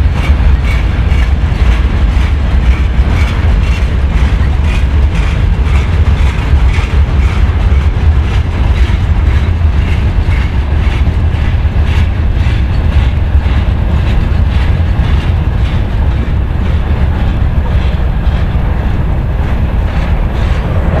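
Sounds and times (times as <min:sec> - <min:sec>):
freight wagons rumbling: 0:00.0 - 0:21.0
wheels clacking over rail joints: 0:00.0 - 0:21.0.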